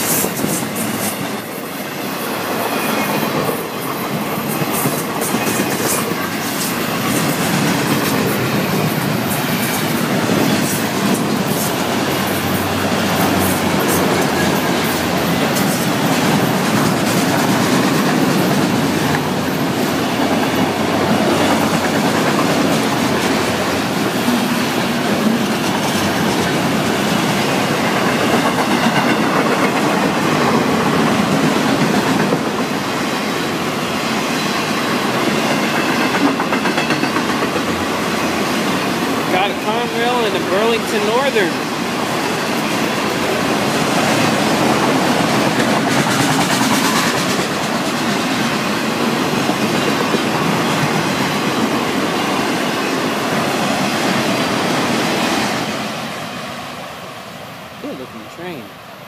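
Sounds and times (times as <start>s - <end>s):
freight train rumble: 0.0s - 59.0s
train wheels clacking over rail joints: 2.8s - 33.5s, 34.4s - 55.4s.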